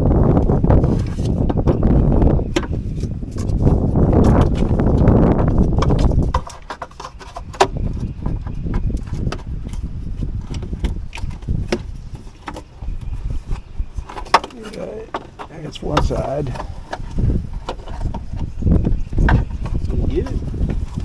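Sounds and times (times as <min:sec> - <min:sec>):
low rumbling: 0:00.0 - 0:21.0.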